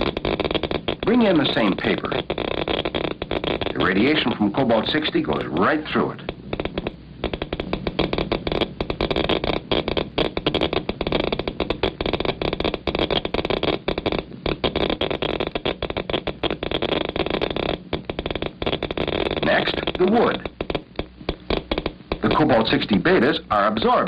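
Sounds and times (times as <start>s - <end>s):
geiger counter clicking: 0.0s - 24.0s
steady hiss: 0.0s - 24.0s.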